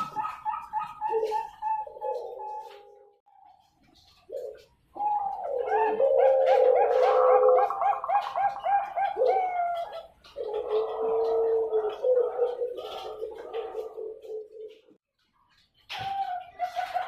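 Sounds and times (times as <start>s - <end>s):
doves cooing: 0.0s - 15.0s, 15.9s - 17.0s.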